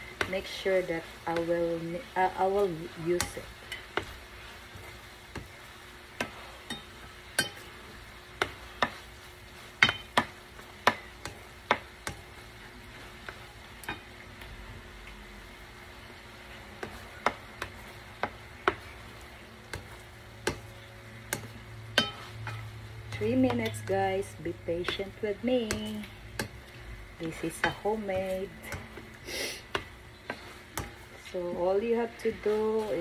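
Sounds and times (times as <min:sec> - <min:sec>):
shrimp sizzling: 0:00.0 - 0:33.0.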